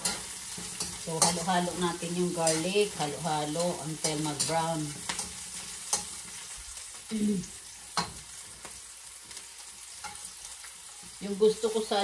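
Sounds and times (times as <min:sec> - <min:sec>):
garlic and onion sizzling in oil: 0:00.0 - 0:12.0.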